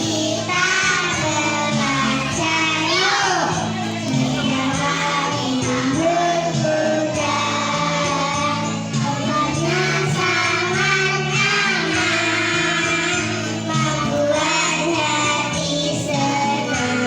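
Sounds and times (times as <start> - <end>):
children singing together: 0.0 - 17.0
music accompaniment with bass: 0.0 - 17.0.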